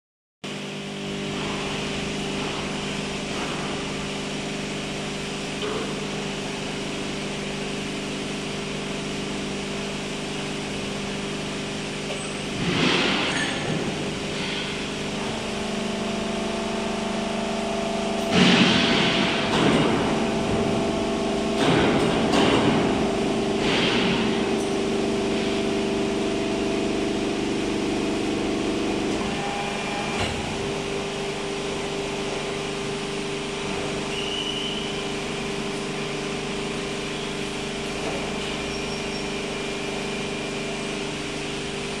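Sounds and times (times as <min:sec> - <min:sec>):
hydraulic press humming: 0:01.0 - 0:42.0.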